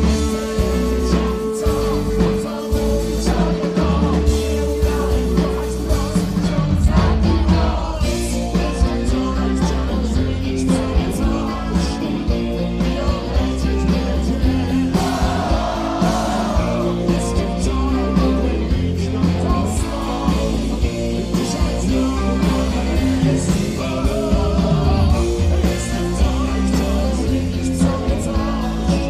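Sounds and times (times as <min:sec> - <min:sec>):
live rock band: 0:00.0 - 0:29.0
man singing: 0:00.0 - 0:29.0.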